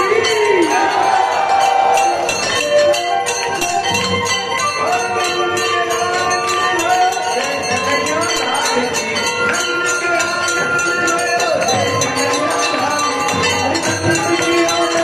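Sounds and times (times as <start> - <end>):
bells ringing rhythmically: 0.0 - 15.0
music with voices singing: 0.0 - 15.0.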